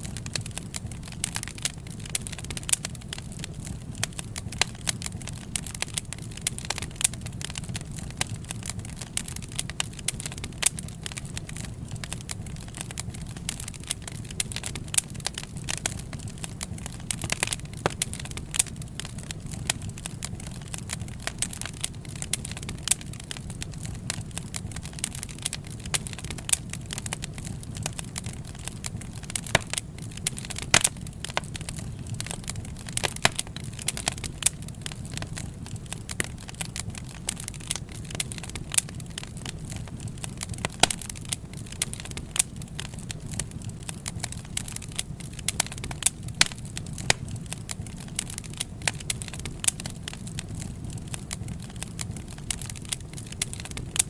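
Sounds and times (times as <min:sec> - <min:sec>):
fire pops and snaps: 0:00.0 - 0:54.0
low rumble of flame: 0:00.0 - 0:54.0
wood fire crackling: 0:00.0 - 0:54.0.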